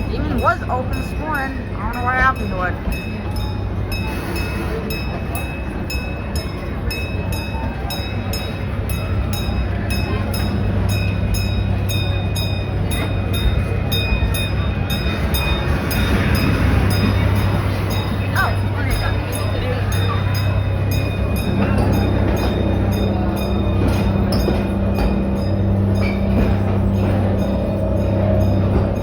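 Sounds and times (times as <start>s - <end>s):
train coach rumbling on track: 0.0s - 29.0s
wheels clicking over rails: 0.0s - 29.0s.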